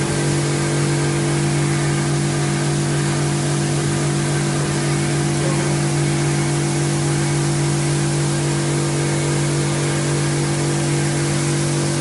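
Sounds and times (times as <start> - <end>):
water pump humming: 0.0 - 12.0
water spray hissing: 0.0 - 12.0.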